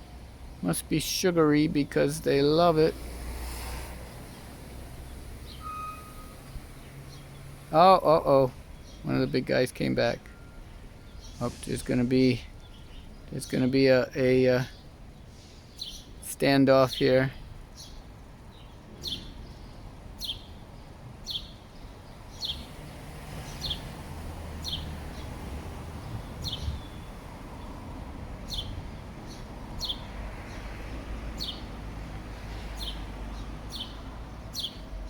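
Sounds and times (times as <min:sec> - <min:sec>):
sparrow chirping: 0:04.2 - 0:24.0, 0:24.6 - 0:27.7, 0:28.4 - 0:31.8, 0:32.4 - 0:35.0.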